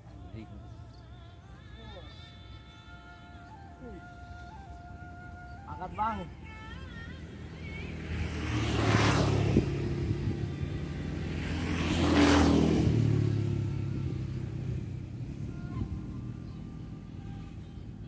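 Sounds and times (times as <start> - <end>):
motor vehicles passing by: 0.0 - 18.0.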